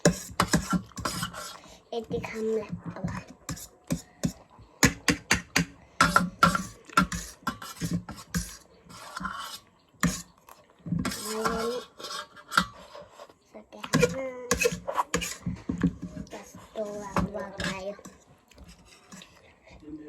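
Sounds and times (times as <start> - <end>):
slurping and chewing: 2.8 - 13.4, 14.5 - 20.0.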